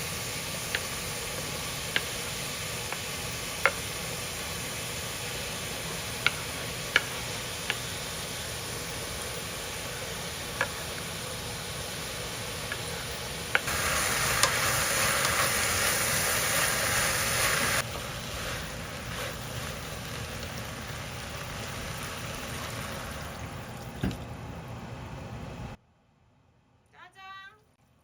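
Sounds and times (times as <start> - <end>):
food sizzling in a pan: 0.0 - 23.7.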